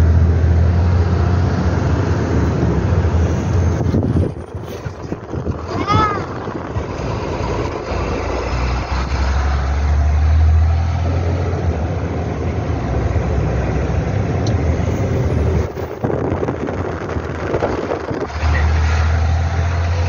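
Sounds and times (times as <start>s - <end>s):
heavy vehicle engine drone: 0.0s - 20.0s
road noise rumble: 0.0s - 20.0s.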